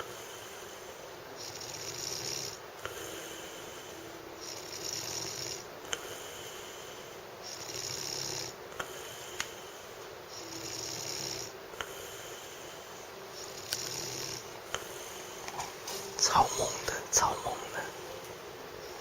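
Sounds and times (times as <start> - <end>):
man snoring heavily: 0.0 - 15.4.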